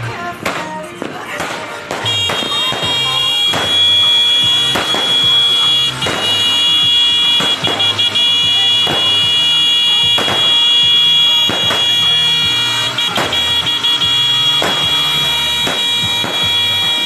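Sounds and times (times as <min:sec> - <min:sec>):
fireworks bangs: 0:00.3 - 0:17.0.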